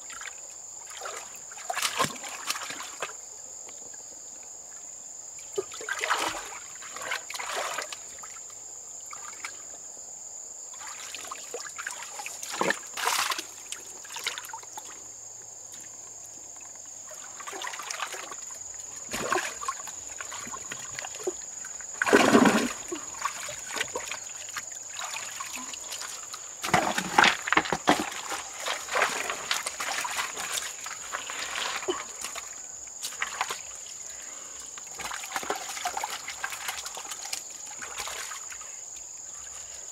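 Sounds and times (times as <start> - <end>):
water splashing and trickling: 0.0 - 3.4, 5.4 - 9.8, 10.7 - 39.9.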